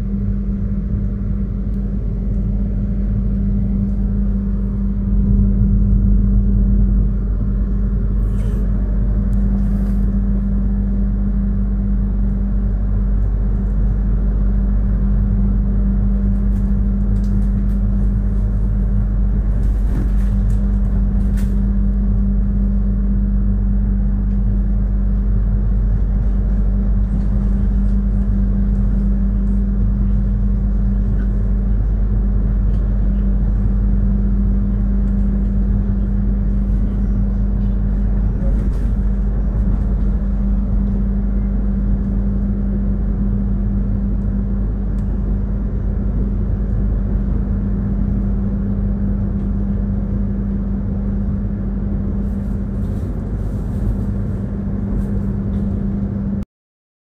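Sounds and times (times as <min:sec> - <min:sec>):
train wheels rumbling on track: 0:00.0 - 0:56.2
steady hum: 0:00.0 - 0:56.4.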